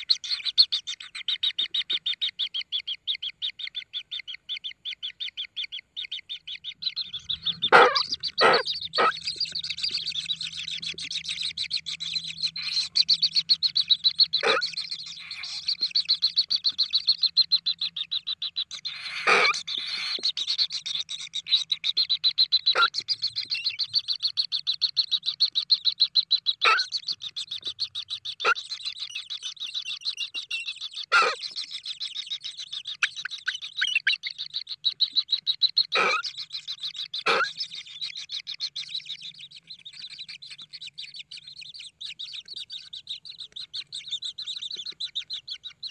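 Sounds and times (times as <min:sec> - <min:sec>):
bird chicks trilling chatter: 0:00.0 - 0:45.9.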